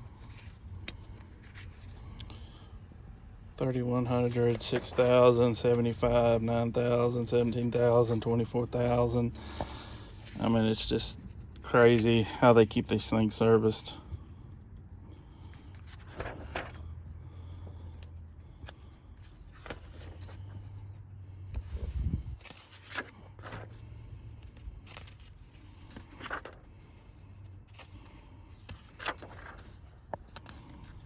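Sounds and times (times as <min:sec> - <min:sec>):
paper pages rustling: 0:00.1 - 0:02.2, 0:03.9 - 0:14.5, 0:15.3 - 0:31.0.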